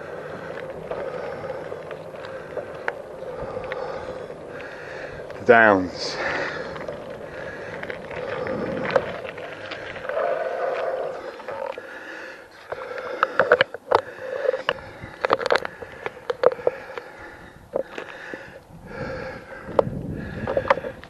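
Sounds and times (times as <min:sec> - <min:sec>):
bicycle clicks and rattles: 0:00.0 - 0:21.0
bicycle tyres rolling: 0:00.0 - 0:21.0.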